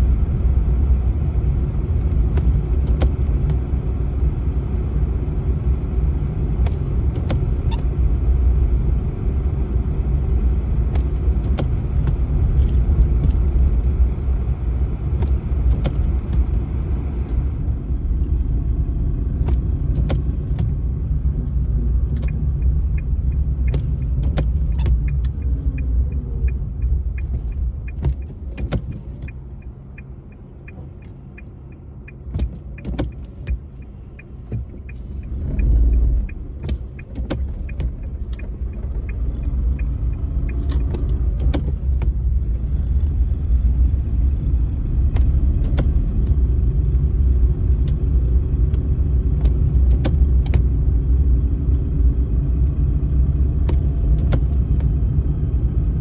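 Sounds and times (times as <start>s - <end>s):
engine and tyre rumble: 0.0s - 56.0s.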